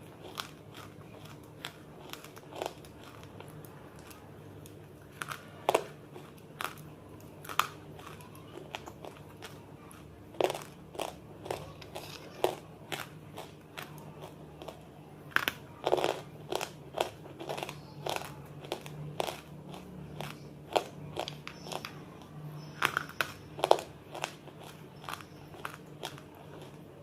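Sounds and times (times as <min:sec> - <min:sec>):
crunchy food chewing: 0:00.0 - 0:27.0.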